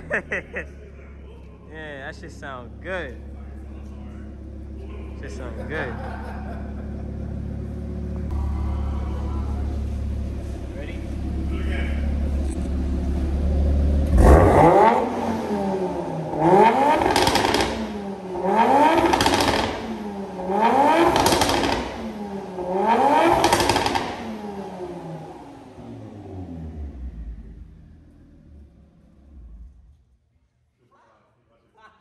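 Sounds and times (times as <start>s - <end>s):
car engine idling and revving: 0.0s - 30.2s.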